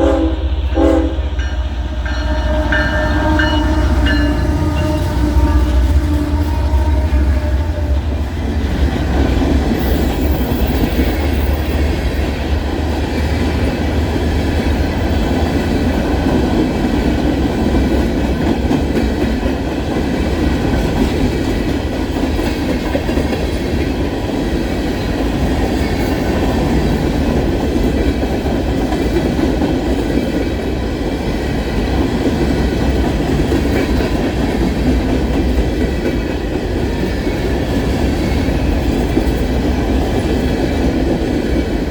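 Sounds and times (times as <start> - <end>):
freight train wheels rumbling: 0.0 - 41.9.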